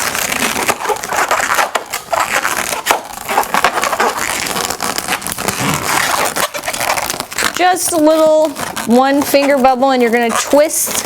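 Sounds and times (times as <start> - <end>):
balloons rubbing and squeaking: 0.0 - 11.0.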